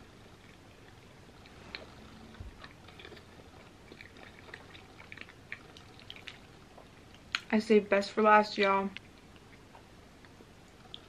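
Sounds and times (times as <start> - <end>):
person chewing with wet smacks: 0.0 - 7.5, 8.9 - 11.0.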